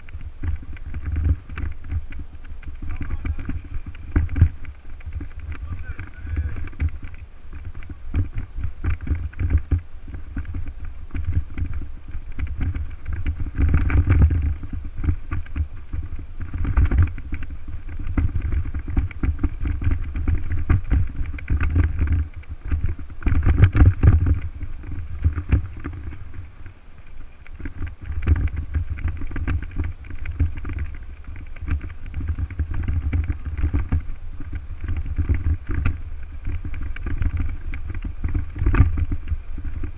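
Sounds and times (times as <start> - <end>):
bike and camera mount rattling: 0.0 - 39.9
bike tyres on gravel track: 0.0 - 39.9
wind rumbling on microphone: 0.0 - 39.9.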